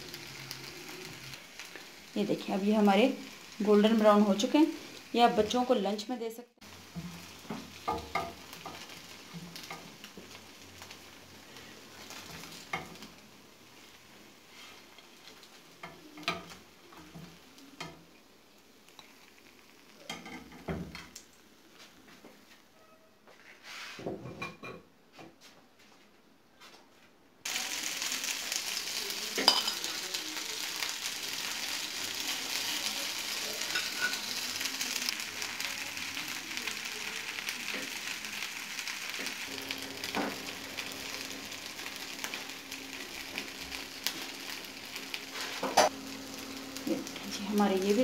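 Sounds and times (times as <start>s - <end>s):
patties sizzling in oil: 0.0s - 22.6s, 27.4s - 48.0s.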